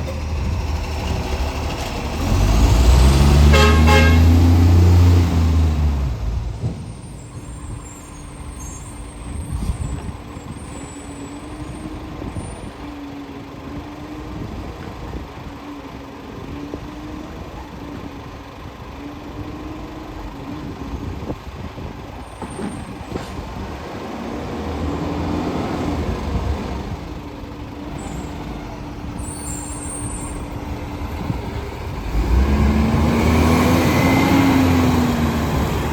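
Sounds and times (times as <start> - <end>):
truck engine with loud exhaust: 0.0 - 35.9.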